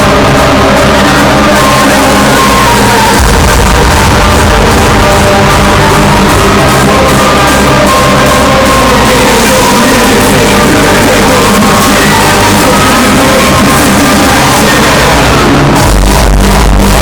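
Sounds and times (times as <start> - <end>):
deep bass: 0.0 - 17.0
loud hardstyle dance music: 0.0 - 17.0.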